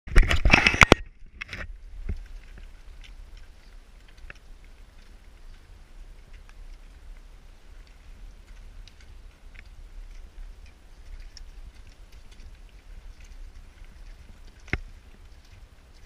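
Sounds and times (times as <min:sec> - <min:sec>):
wind rumble on microphone: 0:00.1 - 0:16.0
footsteps crunching on gravel: 0:02.1 - 0:16.0.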